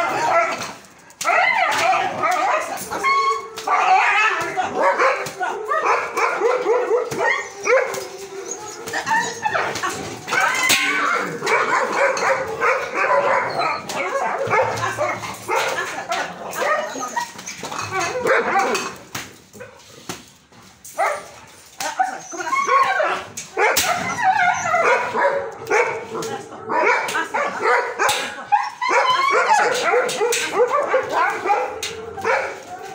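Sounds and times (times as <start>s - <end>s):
dogs barking: 0.0s - 19.0s, 20.9s - 32.9s
dogs yelping: 0.0s - 19.0s, 21.0s - 26.1s, 26.7s - 32.9s.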